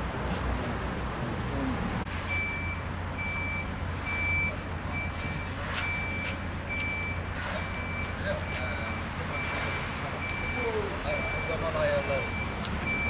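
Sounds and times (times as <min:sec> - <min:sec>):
reversing alarm beeping: 0:02.2 - 0:13.0.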